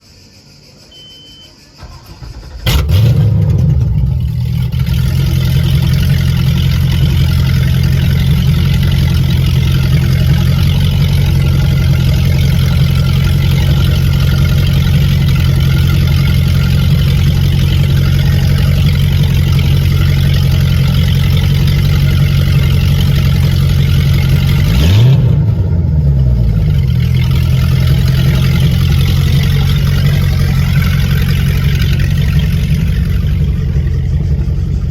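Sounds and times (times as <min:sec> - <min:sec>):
engine throttle blip: 0:01.0 - 0:34.9
boat engine starting and idling: 0:01.6 - 0:34.9.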